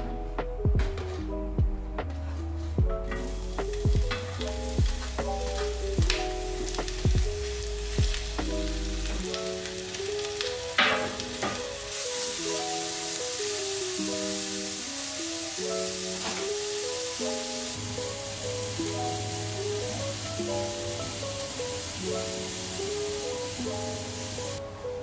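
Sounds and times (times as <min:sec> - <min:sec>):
background music with beat: 0:00.0 - 0:24.6
vegetables sizzling in oil: 0:03.1 - 0:25.0.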